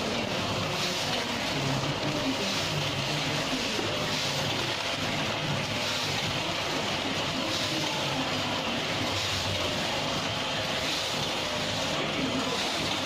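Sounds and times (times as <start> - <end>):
packing machine running with hiss: 0.0 - 13.0.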